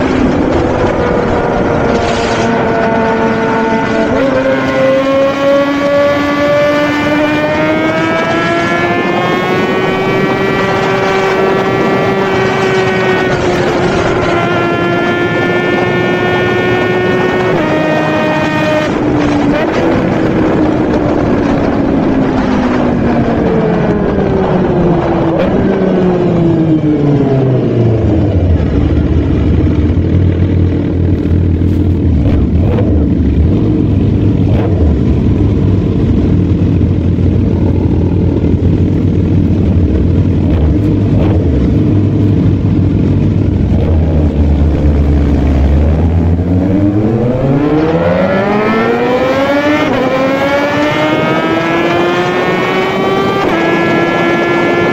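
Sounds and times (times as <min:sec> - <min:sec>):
motorcycle engine revving and idling: 0:00.0 - 0:54.9.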